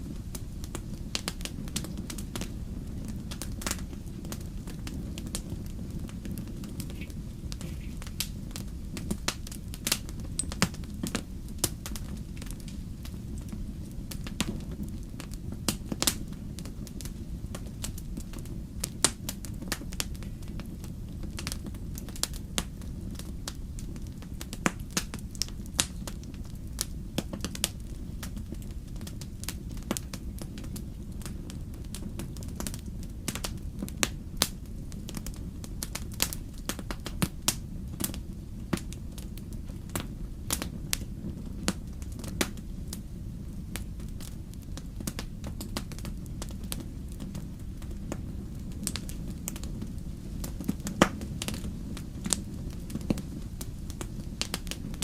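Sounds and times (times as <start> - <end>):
fire flames rumbling: 0.0 - 55.0
logs crackling and popping: 0.0 - 55.0.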